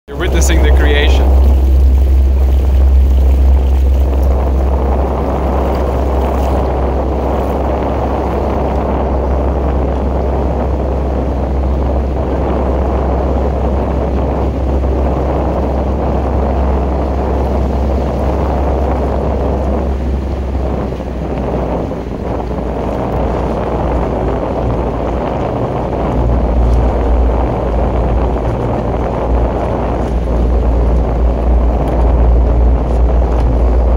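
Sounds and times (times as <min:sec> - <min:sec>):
outboard motor rumbling: 0:00.1 - 0:33.9
wind buffeting microphone: 0:00.1 - 0:33.9.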